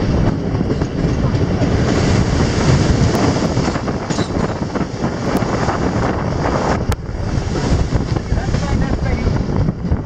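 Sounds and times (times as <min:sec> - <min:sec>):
train wheels rumbling on rails: 0:00.0 - 0:10.0
wind buffeting microphone: 0:00.0 - 0:10.0.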